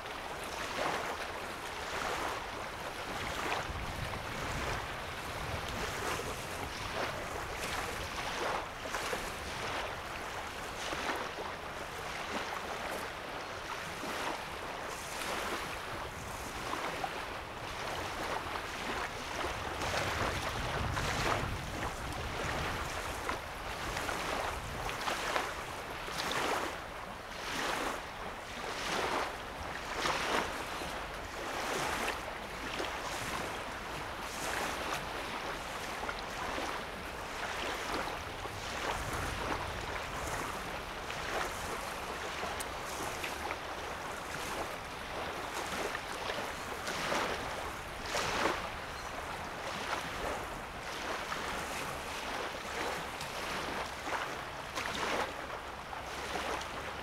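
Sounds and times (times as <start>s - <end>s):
waves lapping on sandy shore: 0.0s - 57.0s.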